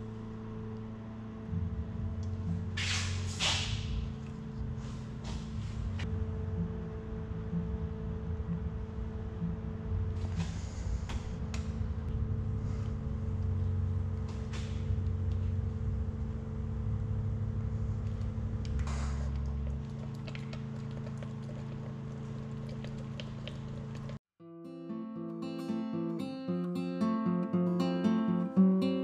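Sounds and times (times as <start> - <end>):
low rumble: 0.0 - 24.2
machine hum: 0.0 - 24.2.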